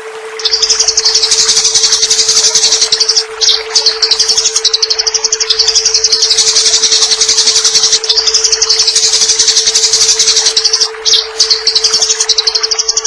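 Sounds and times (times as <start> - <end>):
steady low hum: 0.0 - 13.0
sparrow fighting chatter: 0.4 - 12.7.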